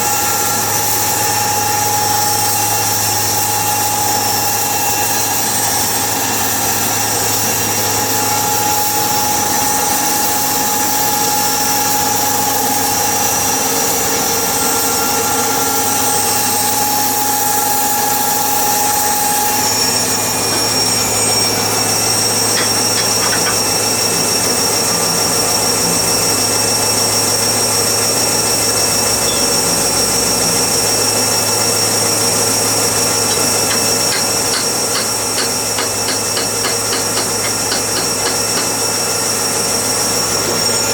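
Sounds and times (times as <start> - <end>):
machinery whining: 0.0 - 40.9.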